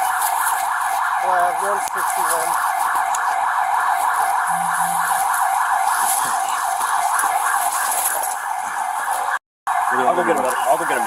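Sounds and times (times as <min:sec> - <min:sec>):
siren wailing with fast warble: 0:00.0 - 0:11.0.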